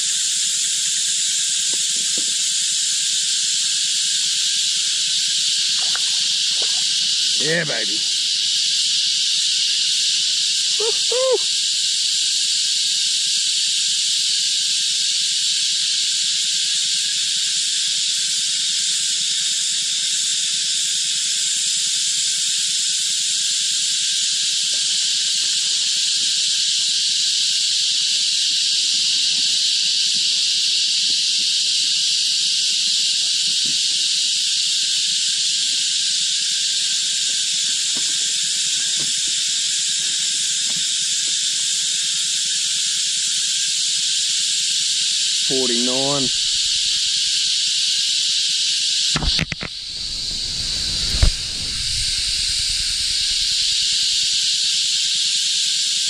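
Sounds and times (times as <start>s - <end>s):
cicada chorus: 0.0s - 56.0s.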